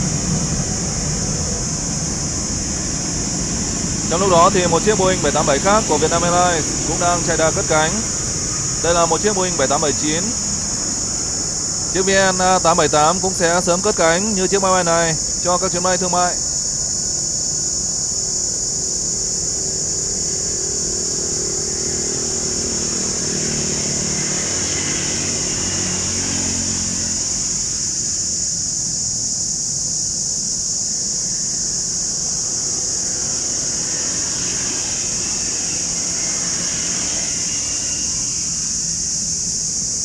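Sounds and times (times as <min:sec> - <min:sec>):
distant jet engine rumble: 0:00.0 - 0:28.4, 0:31.1 - 0:40.0
high-pitched insect chorus: 0:00.0 - 0:40.0.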